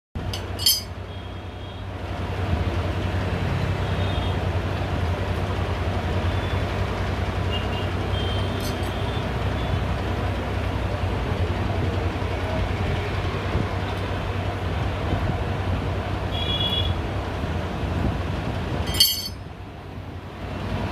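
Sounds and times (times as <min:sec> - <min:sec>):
road traffic rumble: 0:00.2 - 0:20.9.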